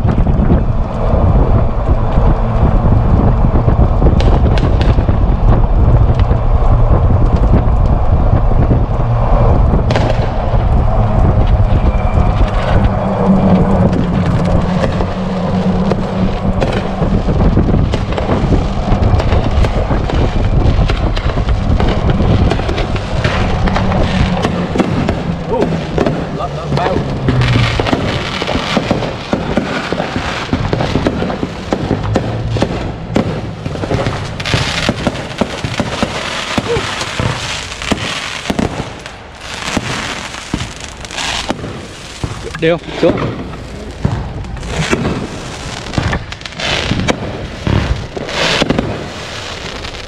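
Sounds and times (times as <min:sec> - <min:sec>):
fireworks popping and banging: 0:00.0 - 0:50.0
wind rumble on microphone: 0:00.0 - 0:50.0.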